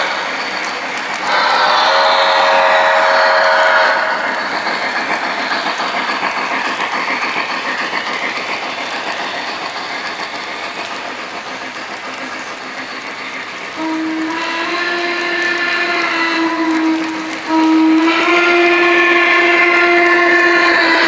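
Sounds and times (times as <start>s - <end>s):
model train wheels clattering: 2.6s - 21.0s.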